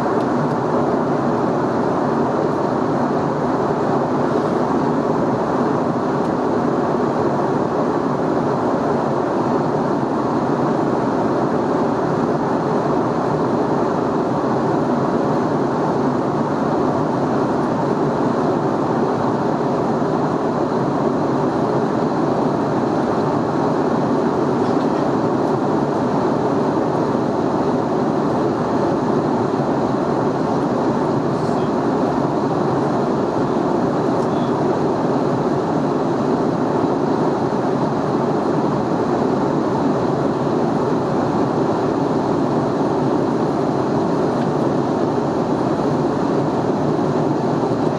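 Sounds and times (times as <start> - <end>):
airplane cabin noise: 0.0 - 47.9.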